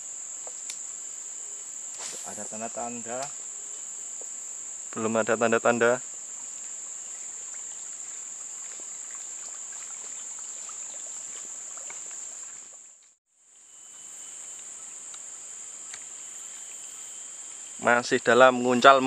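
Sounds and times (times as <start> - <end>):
shrill insect chorus: 0.0 - 19.0.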